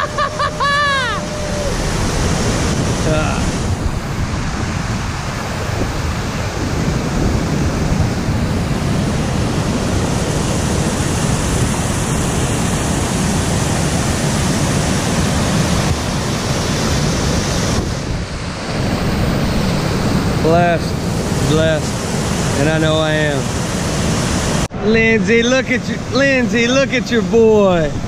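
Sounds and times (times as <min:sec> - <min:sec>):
water rushing over waterfall: 0:00.0 - 0:28.0.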